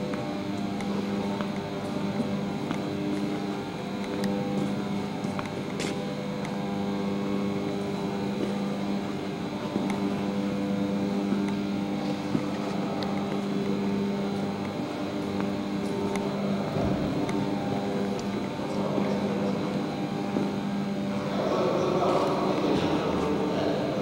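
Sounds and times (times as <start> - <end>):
mechanical hum with tones: 0.0 - 24.0.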